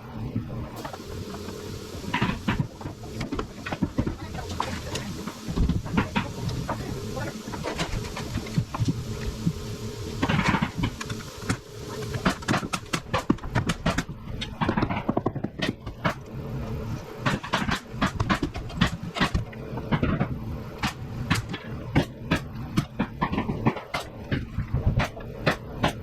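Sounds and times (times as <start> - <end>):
steady low background noise: 0.0 - 26.0.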